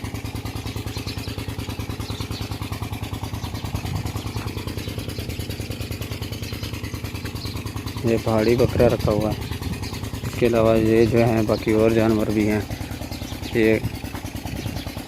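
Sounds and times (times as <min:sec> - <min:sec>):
engine running with rapid thumping: 0:00.0 - 0:15.0.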